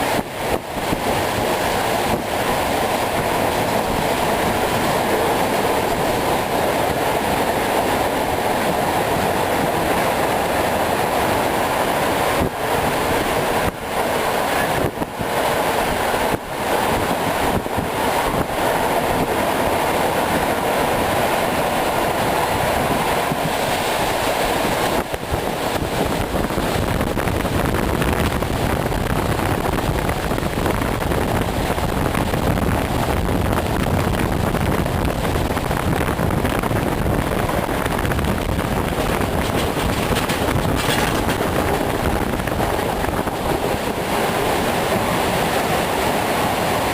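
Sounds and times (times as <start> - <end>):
electric train rumbling: 0.0 - 46.9
wind on microphone: 0.0 - 46.9.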